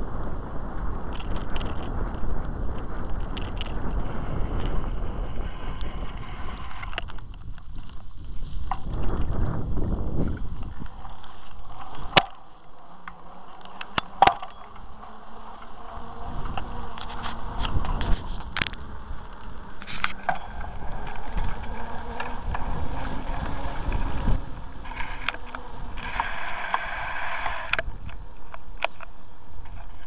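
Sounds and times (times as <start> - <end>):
low rumble of vehicle travel: 0.0 - 30.0
steady hiss: 0.1 - 30.0.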